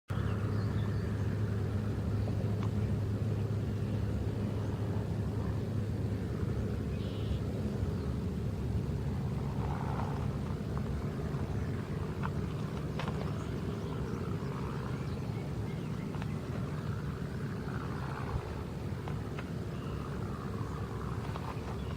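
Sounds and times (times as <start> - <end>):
vehicle engine humming: 0.1 - 21.9.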